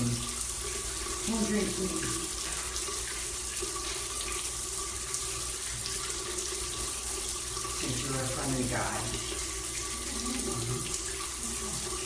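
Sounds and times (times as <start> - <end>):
shower spray on tiled floor: 0.0 - 12.0.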